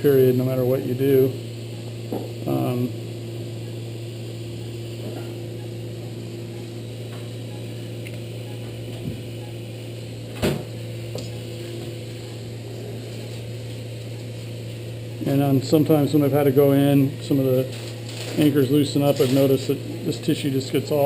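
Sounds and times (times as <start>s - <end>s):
electrical machine hum: 0.0s - 21.0s.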